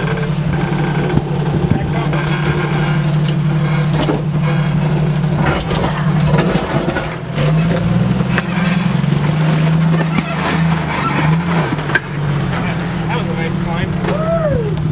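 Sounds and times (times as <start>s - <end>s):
short knocks: 0.0s - 13.0s
car engine at low speed: 0.0s - 14.9s.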